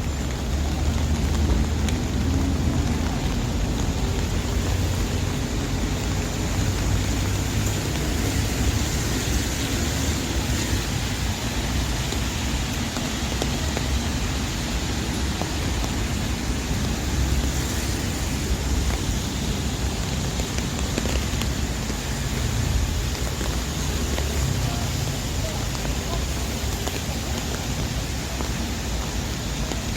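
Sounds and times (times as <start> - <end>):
low rumble of traffic: 0.0 - 29.9
steady rain on street: 0.0 - 29.9.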